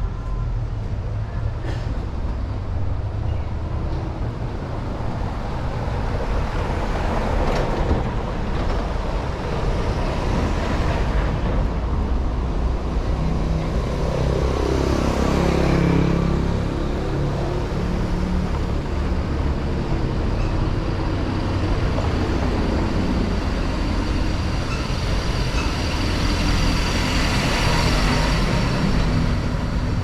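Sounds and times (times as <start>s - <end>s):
rumble of car engines: 0.0s - 30.0s.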